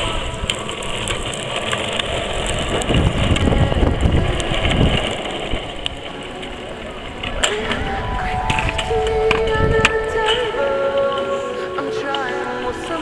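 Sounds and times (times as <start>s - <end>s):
small wheels rolling on asphalt: 0.0s - 13.0s.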